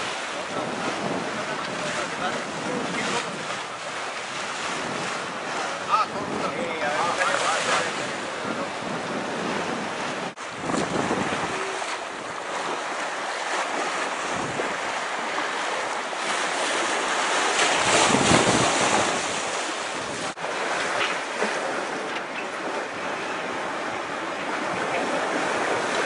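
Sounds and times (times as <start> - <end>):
water rushing past hull: 0.0 - 26.0
wind buffeting microphone: 0.0 - 26.0.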